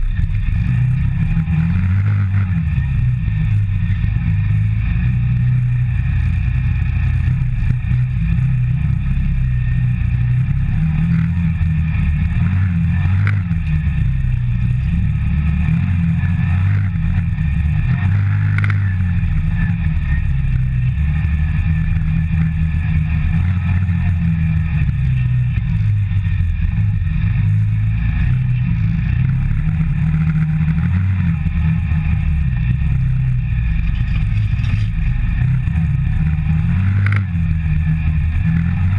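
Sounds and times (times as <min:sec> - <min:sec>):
engine running while driving: 0:00.0 - 0:38.9.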